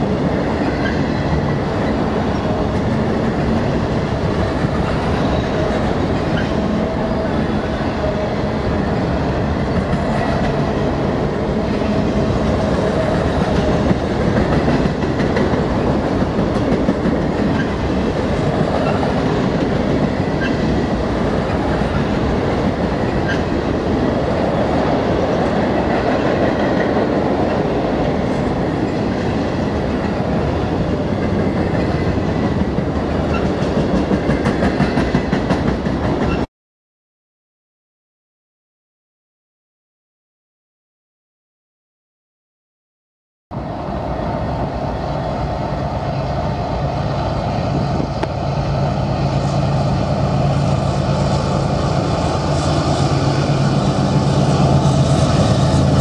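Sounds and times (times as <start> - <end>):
train wheels rumbling on rails: 0.0 - 36.5, 43.5 - 56.0.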